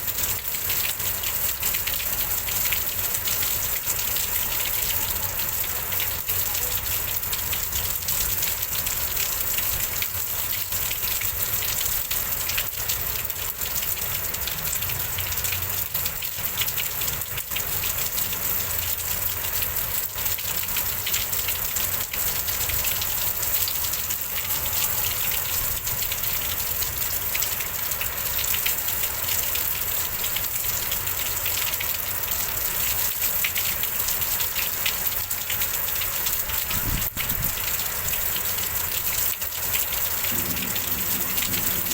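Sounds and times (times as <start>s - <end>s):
heavy rain pouring: 0.0s - 41.9s
wind: 0.0s - 41.9s.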